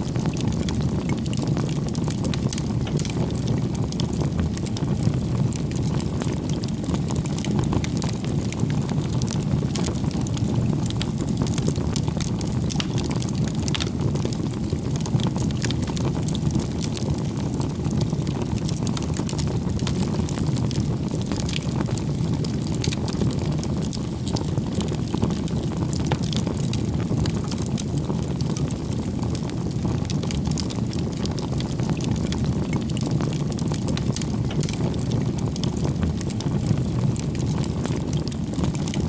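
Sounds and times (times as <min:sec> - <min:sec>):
wood bonfire crackling: 0:00.0 - 0:39.0.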